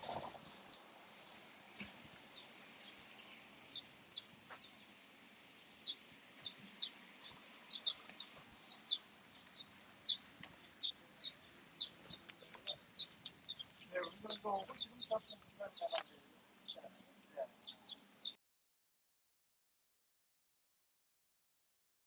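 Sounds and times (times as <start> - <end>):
bird chirping: 0.0 - 18.4.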